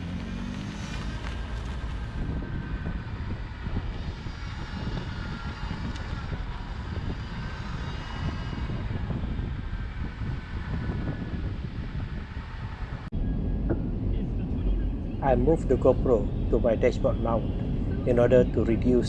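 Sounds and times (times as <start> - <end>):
road rumble from moving car: 0.0 - 19.0
wind buffeting: 0.0 - 19.0.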